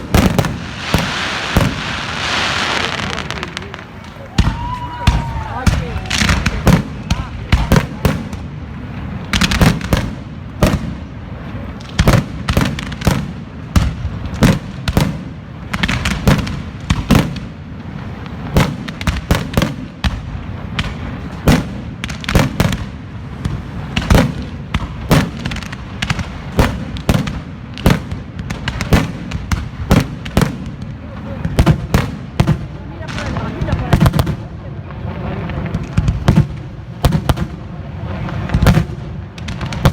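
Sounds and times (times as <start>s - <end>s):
fireworks bangs and crackles: 0.0s - 39.9s
rumble of echoing detonations: 0.0s - 39.9s.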